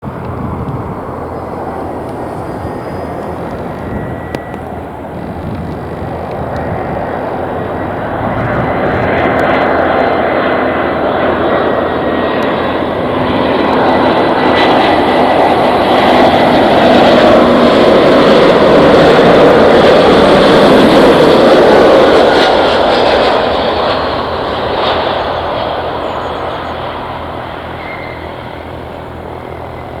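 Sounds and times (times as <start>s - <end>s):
jet airliner engine whine: 0.0s - 30.0s.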